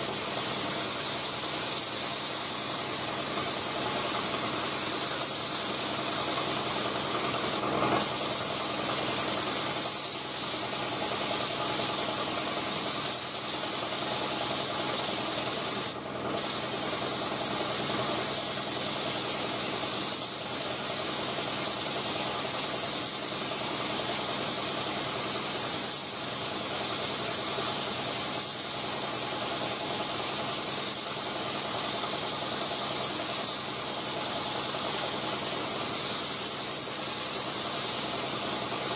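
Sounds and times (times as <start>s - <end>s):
spray gun hissing: 0.0s - 38.9s.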